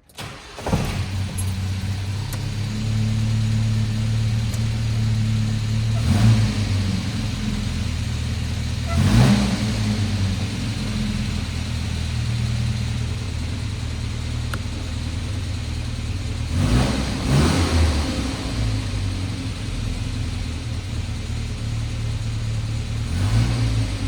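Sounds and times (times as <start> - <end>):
car engine idling and revving: 0.2 - 24.0.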